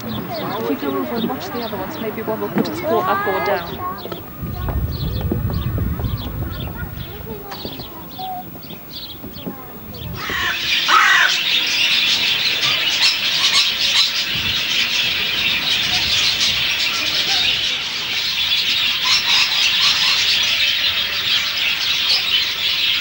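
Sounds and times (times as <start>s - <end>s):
many birds chattering: 0.0s - 23.0s.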